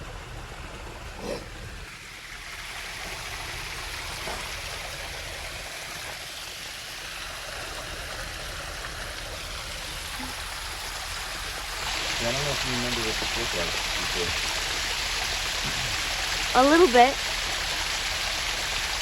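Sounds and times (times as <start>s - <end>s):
waterfall spilling over rocks: 0.0s - 19.0s.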